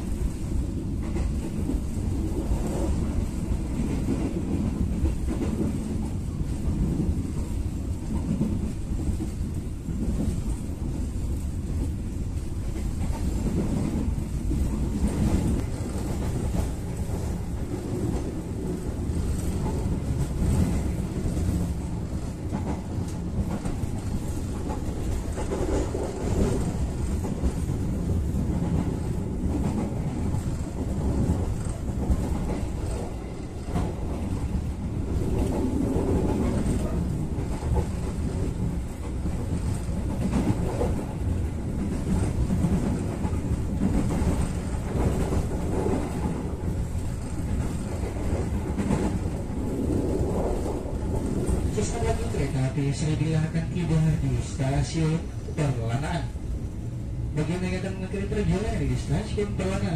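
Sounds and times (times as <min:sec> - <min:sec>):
train carriage rumble: 0:00.0 - 0:59.9.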